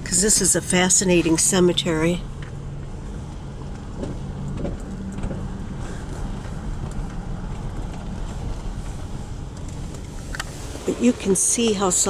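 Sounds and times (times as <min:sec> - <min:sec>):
car engine hum: 0:00.0 - 0:12.0
tyre and road noise: 0:00.0 - 0:12.0.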